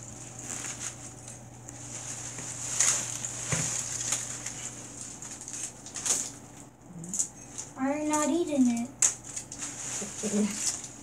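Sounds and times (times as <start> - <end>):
potato chips crackling and rustling: 0.0 - 11.0.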